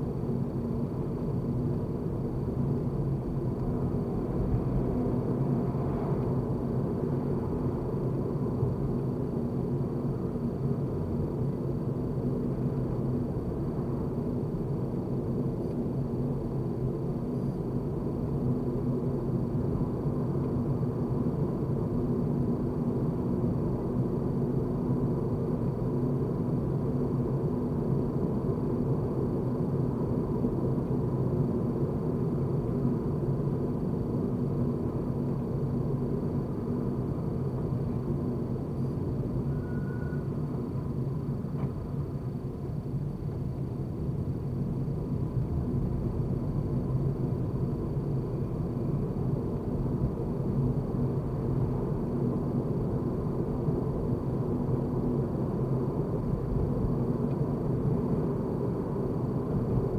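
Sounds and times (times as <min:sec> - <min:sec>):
faint steady hum: 0:00.0 - 0:59.9
road and engine rumble: 0:00.0 - 0:59.9.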